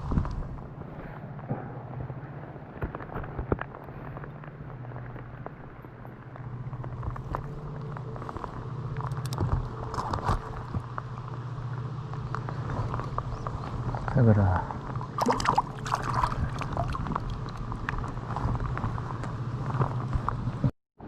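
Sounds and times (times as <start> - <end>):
steady low rumble: 0.0 - 20.7.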